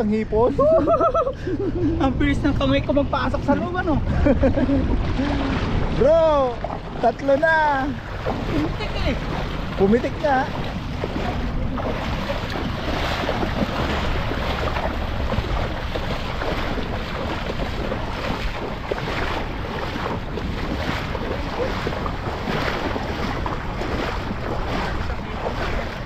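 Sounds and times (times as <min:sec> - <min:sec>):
boots splashing through water: 0:02.0 - 0:26.0.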